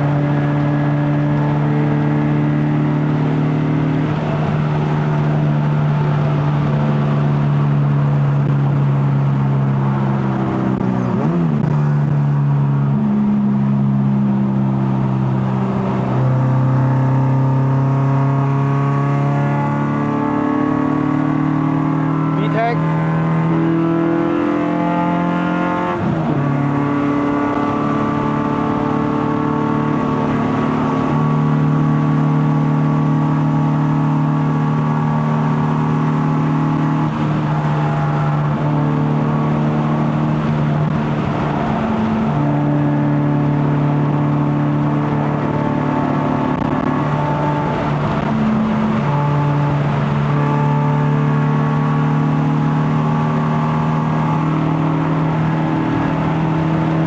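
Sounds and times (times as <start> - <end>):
car engine through loud exhaust: 0.0 - 57.0.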